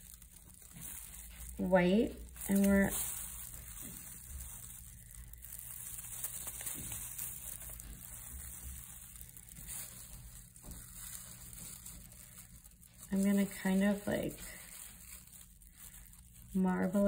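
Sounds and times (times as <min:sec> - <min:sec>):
plastic glove crinkling: 0:00.0 - 0:17.0
small handling ticks: 0:00.0 - 0:17.0.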